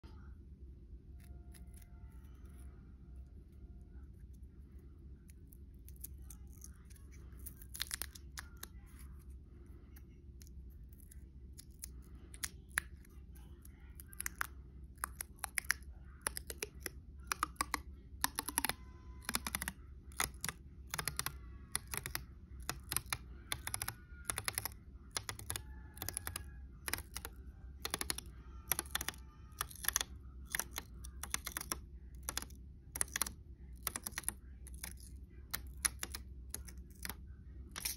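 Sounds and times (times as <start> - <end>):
low steady hum: 0.0 - 37.9.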